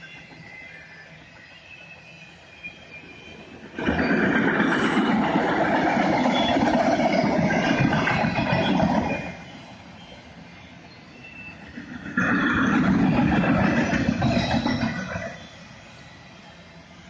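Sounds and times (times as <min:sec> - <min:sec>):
freight train cars rolling past: 0:00.0 - 0:17.0.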